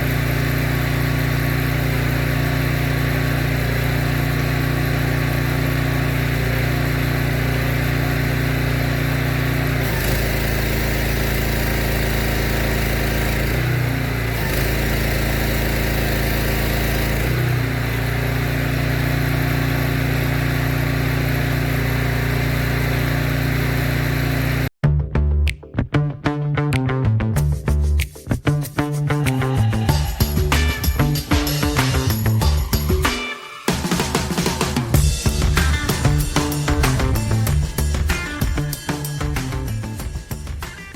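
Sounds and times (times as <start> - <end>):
pressure washer petrol engine running: 0.0 - 24.8, 29.5 - 40.9.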